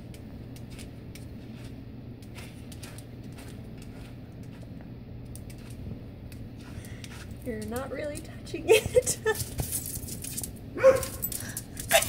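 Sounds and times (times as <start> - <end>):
dog paws clicking on concrete: 0.0 - 12.0
steady low hum: 0.0 - 12.0.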